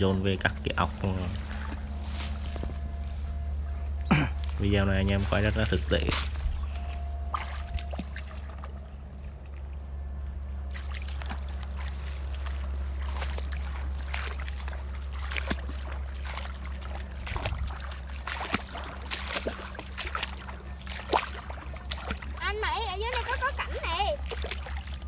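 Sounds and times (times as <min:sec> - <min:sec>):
small splashes: 0:00.0 - 0:09.9, 0:10.5 - 0:25.0
footsteps wading through water: 0:00.0 - 0:25.0
grass rustling: 0:00.0 - 0:25.0
steady low rumble: 0:00.0 - 0:25.0.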